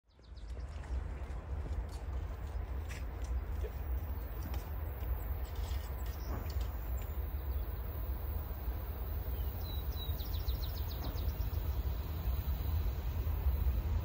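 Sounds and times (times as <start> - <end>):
low rumble of outdoor ambience: 0.0 - 14.0.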